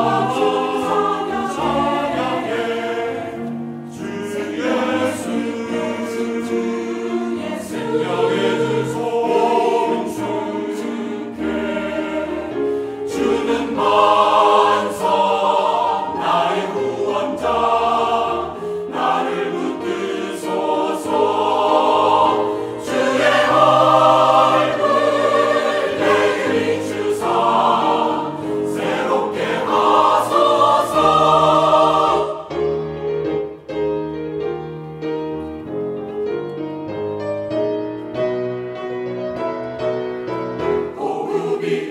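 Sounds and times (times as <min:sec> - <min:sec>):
choir singing a hymn: 0:00.0 - 0:33.0, 0:40.5 - 0:41.9
piano accompaniment: 0:00.0 - 0:41.9.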